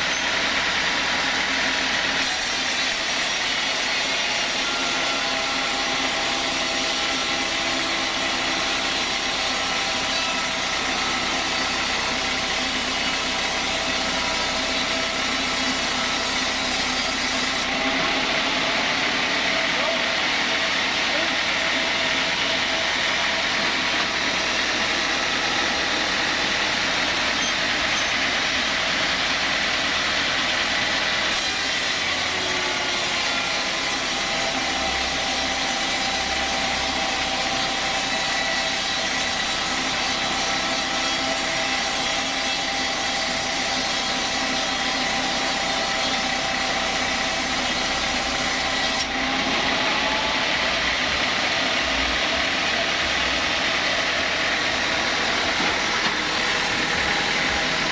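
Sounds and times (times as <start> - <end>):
hissing wood cutting noise: 0.0 - 57.9
sawmill saw running: 0.0 - 57.9.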